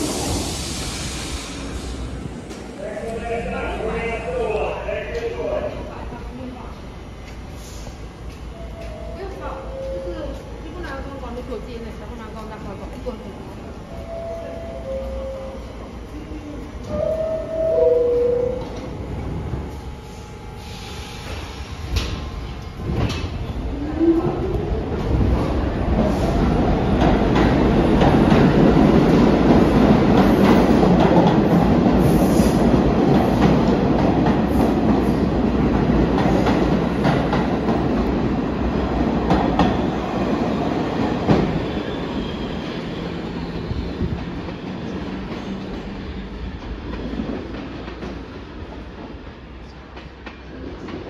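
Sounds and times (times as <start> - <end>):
subway train wheels clattering: 0.0 - 51.0.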